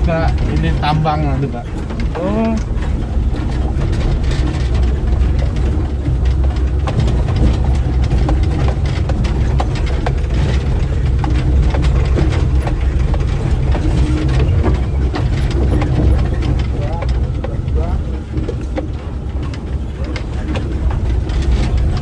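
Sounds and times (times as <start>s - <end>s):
body and frame rattling: 0.0s - 22.0s
off-road vehicle engine running: 0.0s - 22.0s.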